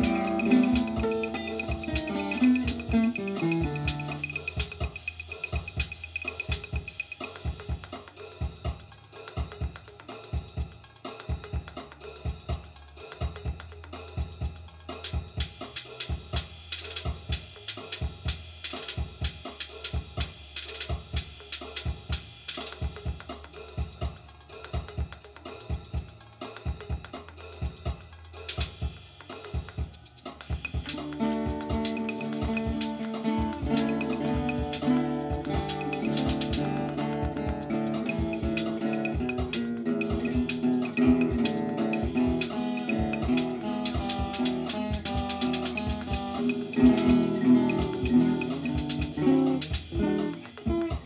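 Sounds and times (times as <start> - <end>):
drum kit playing a beat: 0.0 - 51.0.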